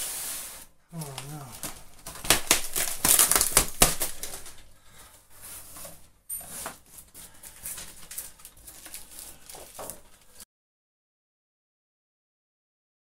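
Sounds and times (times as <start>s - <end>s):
plastic bags rustling and crinkling: 0.0s - 10.4s.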